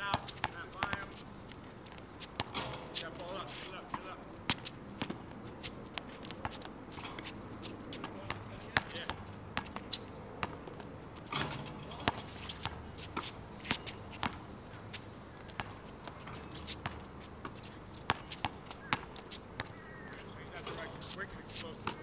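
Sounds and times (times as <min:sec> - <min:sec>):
basketball bouncing on asphalt: 0:00.0 - 0:03.2, 0:03.8 - 0:21.0, 0:21.8 - 0:22.0.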